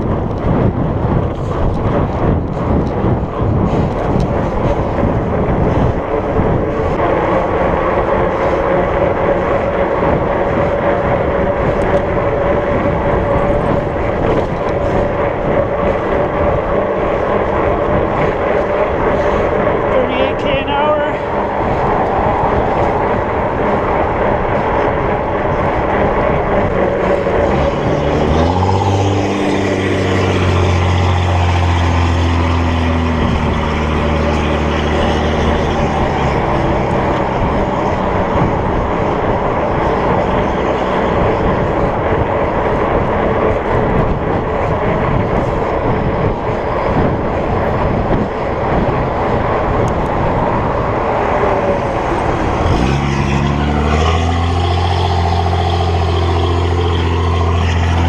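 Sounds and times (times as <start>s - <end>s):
bike tyre road noise: 0.0s - 58.0s
passing vehicle engine: 0.0s - 58.0s
wind on microphone: 0.0s - 58.0s.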